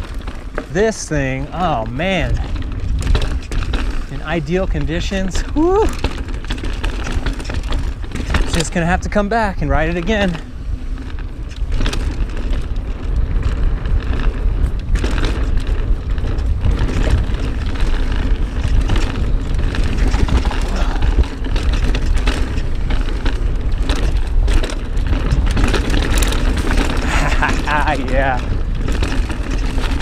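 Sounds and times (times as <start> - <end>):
bike clattering over bumps: 0.0 - 30.0
tyres rolling over dirt: 0.0 - 30.0
wind buffeting microphone: 0.0 - 30.0.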